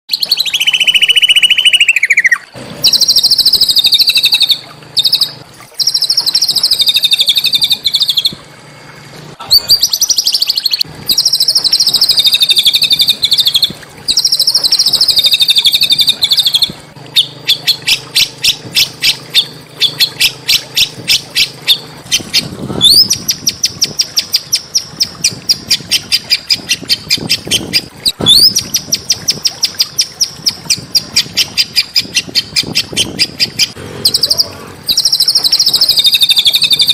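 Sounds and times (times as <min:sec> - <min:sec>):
songbird singing trills: 0:00.1 - 0:08.4, 0:09.4 - 0:36.9.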